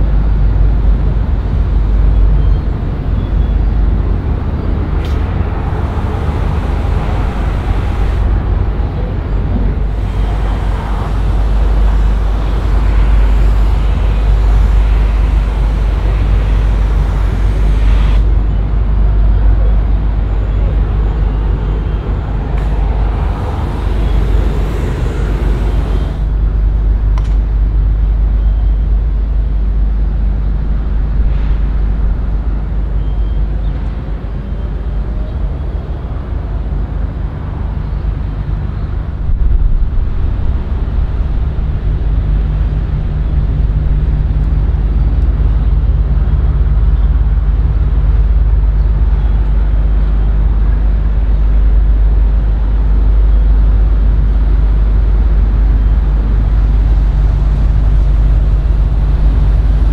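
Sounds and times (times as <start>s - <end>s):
engine rumble with hum: 0.0s - 59.9s
traffic noise: 0.0s - 59.9s.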